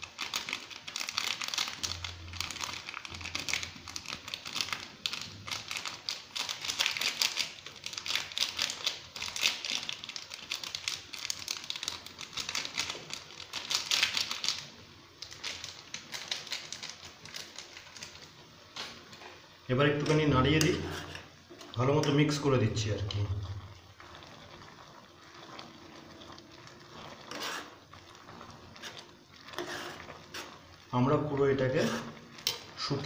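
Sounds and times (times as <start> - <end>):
water boiling in a saucepan: 0.0 - 33.0.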